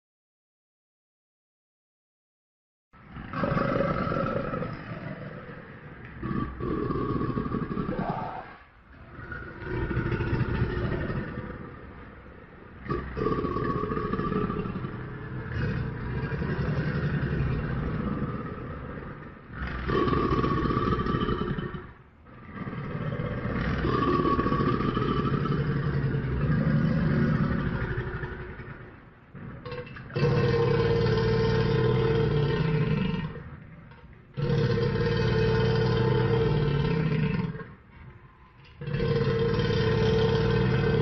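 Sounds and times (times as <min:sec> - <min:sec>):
crocodile growling: 0:03.0 - 0:41.0.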